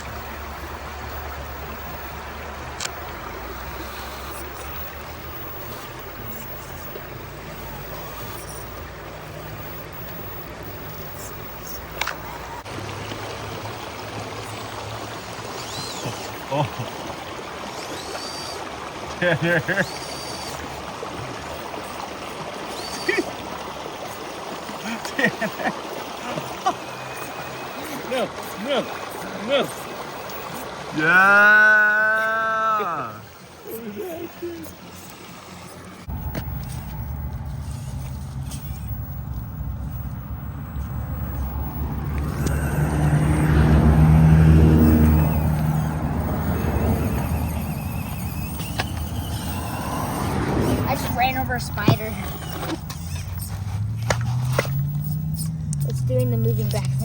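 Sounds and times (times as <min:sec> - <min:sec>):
flowing water: 0:00.0 - 0:57.0
road vehicle passing: 0:00.0 - 0:57.0.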